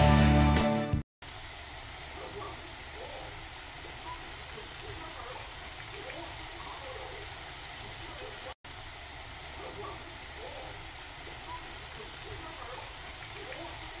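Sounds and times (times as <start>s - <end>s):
stir-fry sizzling in a pan: 1.2s - 14.0s.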